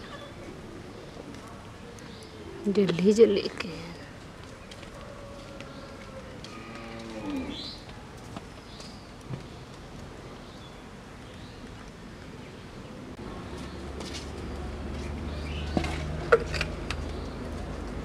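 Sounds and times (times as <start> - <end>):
faint birds chirping: 0.0 - 16.2.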